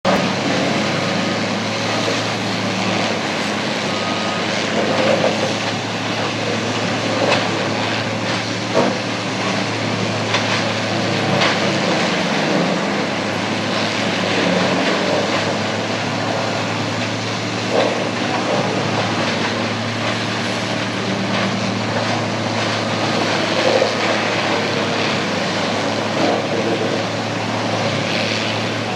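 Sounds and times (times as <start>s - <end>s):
heavy engine drone: 0.0s - 28.9s.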